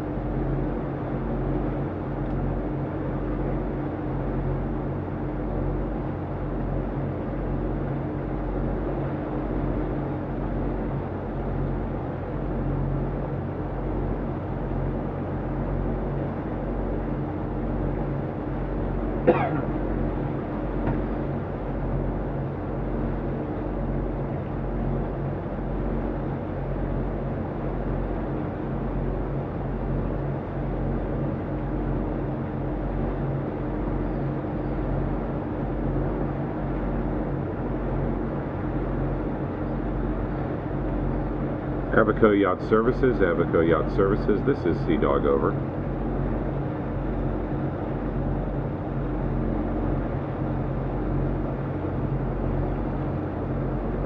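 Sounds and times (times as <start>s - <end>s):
boat engines droning: 0.0s - 54.0s.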